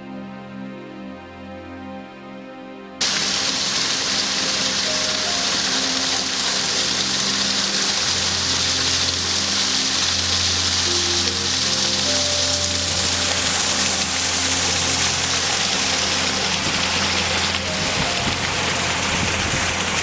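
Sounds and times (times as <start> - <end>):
soft background music: 0.0 - 20.0
small waterfall rushing: 3.0 - 20.0.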